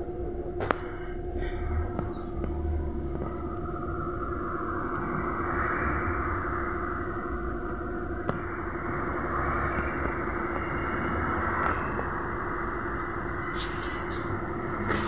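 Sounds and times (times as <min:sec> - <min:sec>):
electrical drone: 0:00.0 - 0:15.0
trolleybus rumble and hum: 0:00.0 - 0:15.0.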